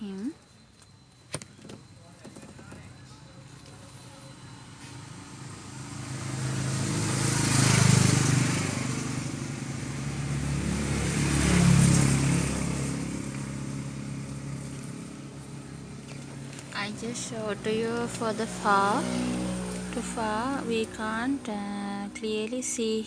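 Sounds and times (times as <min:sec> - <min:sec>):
motor vehicles passing: 0:02.8 - 0:23.0.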